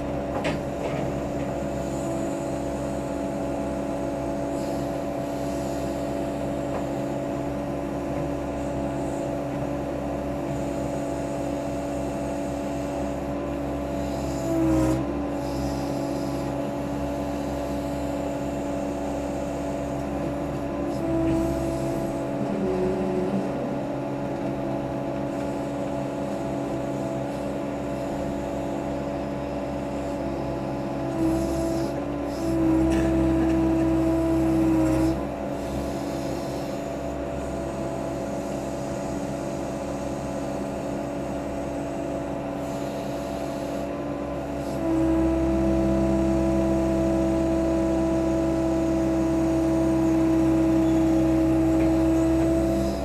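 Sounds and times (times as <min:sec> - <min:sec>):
backhoe engine running: 0:00.0 - 0:53.0.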